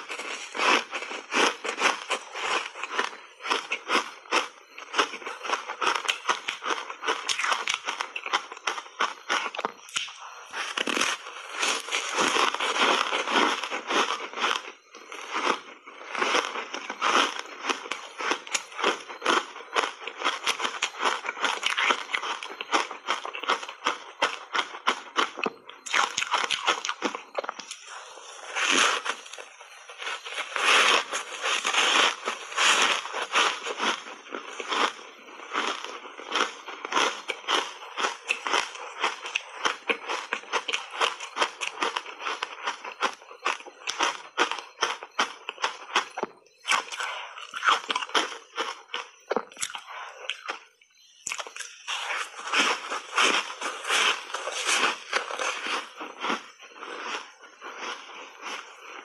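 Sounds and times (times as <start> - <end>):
crisp crunchy chewing: 0.0 - 59.0.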